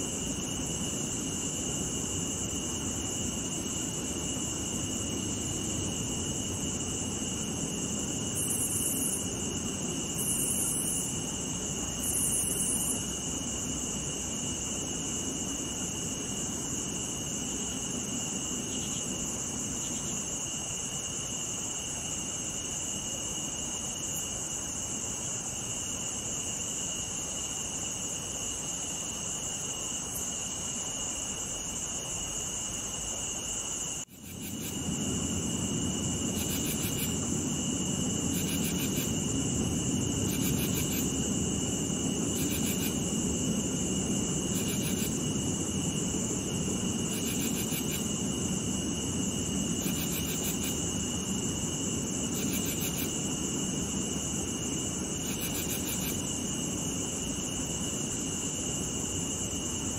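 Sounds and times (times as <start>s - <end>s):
crickets and cicadas trilling: 0.0s - 59.9s.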